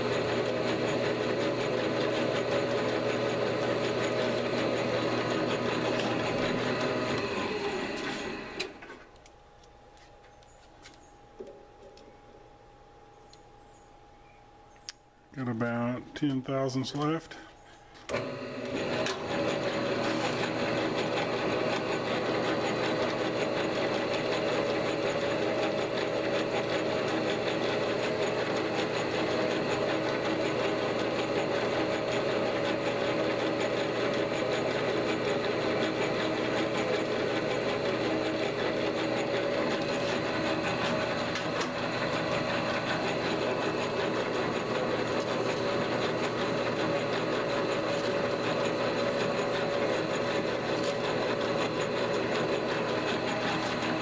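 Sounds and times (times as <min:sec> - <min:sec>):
metal lathe motor and gear whine: 0:00.0 - 0:08.8, 0:18.1 - 0:54.0.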